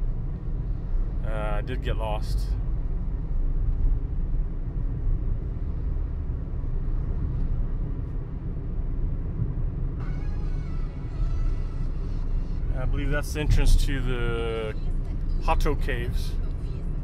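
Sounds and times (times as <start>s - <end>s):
car driving at road speed: 0.0s - 17.0s.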